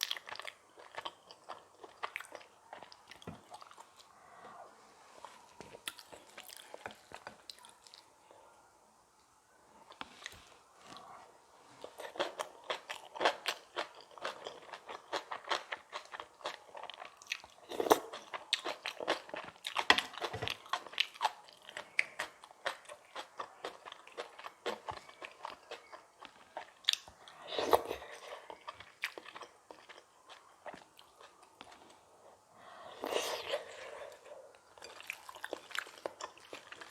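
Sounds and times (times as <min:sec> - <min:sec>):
chewing and crunching food: 0:00.0 - 0:08.4, 0:09.8 - 0:36.9.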